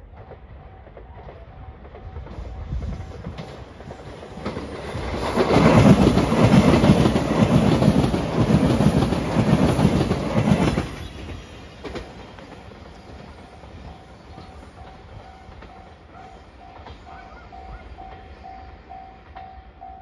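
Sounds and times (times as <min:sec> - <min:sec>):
train wheels rumbling and clacking: 0:00.0 - 0:20.0.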